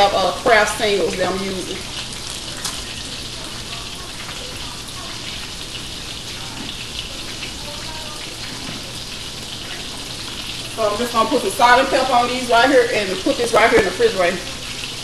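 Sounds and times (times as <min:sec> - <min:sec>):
food frying in grease: 0:00.0 - 0:15.0.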